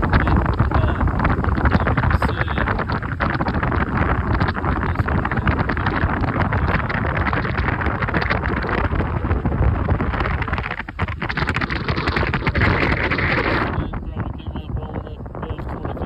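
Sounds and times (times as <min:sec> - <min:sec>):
low rumble: 0:00.0 - 0:16.0
wind buffeting microphone: 0:00.0 - 0:16.0.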